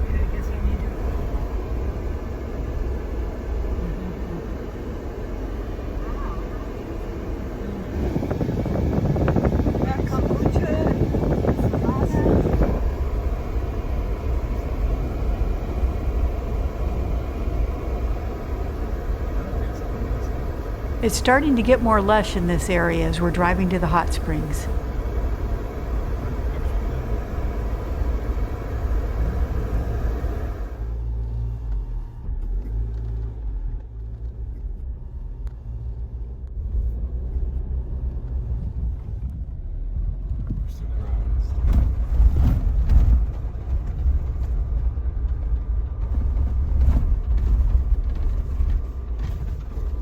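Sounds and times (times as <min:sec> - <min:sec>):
car tyres and engine rumble: 0:00.0 - 0:21.0, 0:24.7 - 0:50.0.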